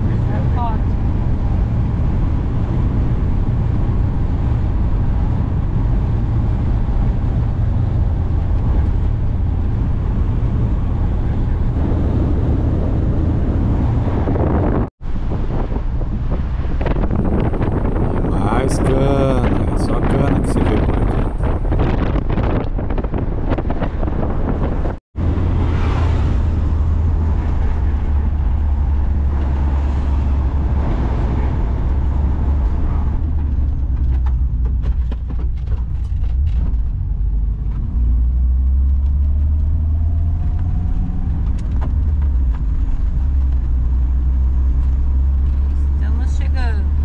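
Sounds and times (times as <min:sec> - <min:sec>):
van engine and road drone: 0:00.0 - 0:47.0.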